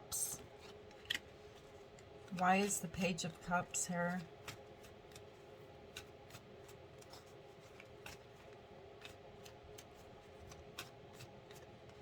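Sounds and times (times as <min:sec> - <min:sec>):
faint steady hum: 0:00.0 - 0:12.0
cards ticking when handled: 0:02.0 - 0:12.0.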